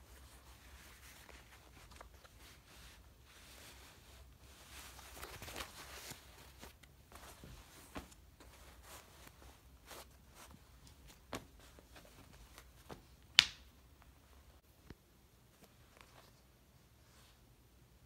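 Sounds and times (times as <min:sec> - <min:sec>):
soft rustle: 0:00.0 - 0:17.7.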